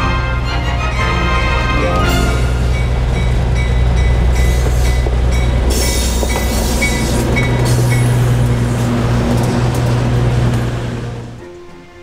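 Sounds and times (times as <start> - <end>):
diesel locomotive engine drone: 0.0 - 12.0
train coaches rolling on track: 0.0 - 12.0.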